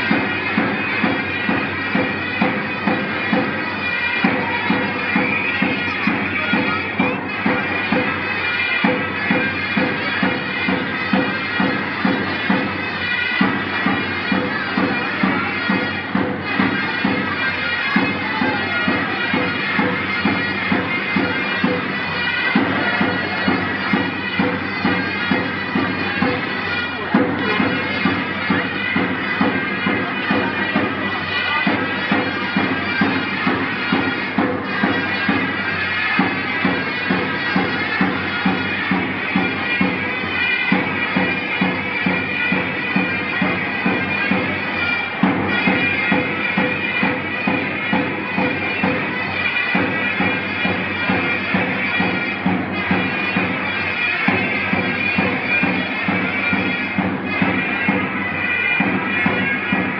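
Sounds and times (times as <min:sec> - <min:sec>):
drum beat: 0:00.0 - 0:59.9
reedy shawm melody: 0:00.0 - 0:59.9.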